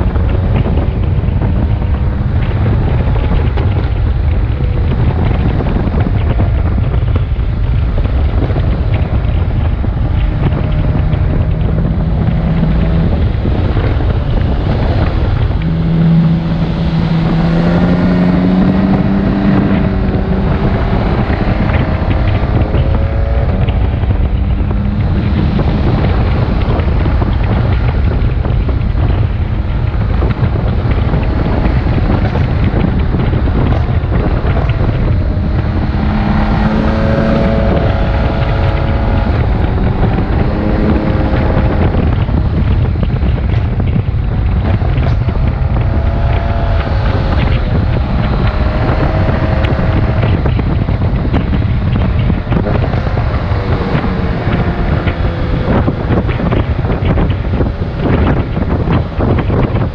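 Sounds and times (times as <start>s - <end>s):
motorcycle engine revving: 0.0s - 59.9s
wind buffeting on microphone: 0.0s - 59.9s.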